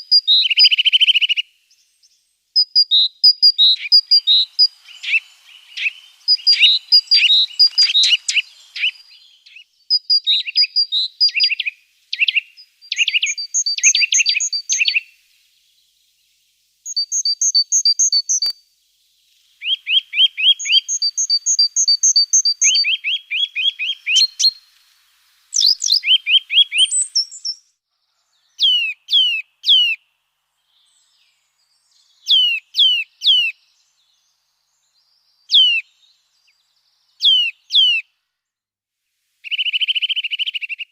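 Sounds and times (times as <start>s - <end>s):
small songbirds chirping and trilling: 0.0s - 38.2s.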